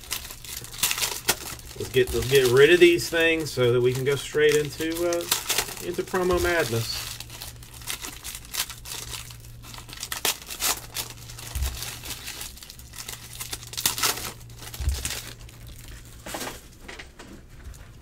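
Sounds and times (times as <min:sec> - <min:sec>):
foil wrappers crinkling and tearing: 0:00.0 - 0:17.0
steady low hum: 0:00.0 - 0:18.0.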